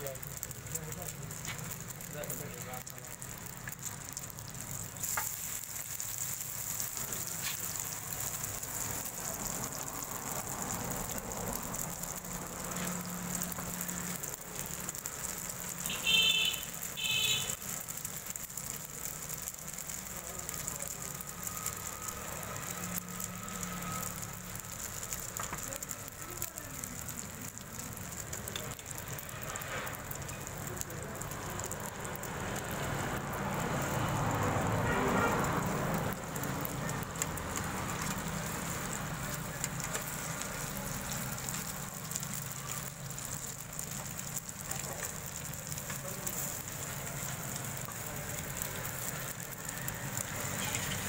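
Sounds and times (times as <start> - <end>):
frying sizzle: 0.0 - 51.0.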